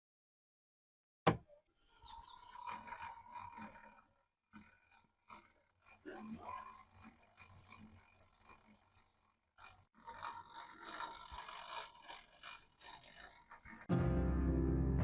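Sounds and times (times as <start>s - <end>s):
hand drill gears clicking: 1.9s - 13.9s.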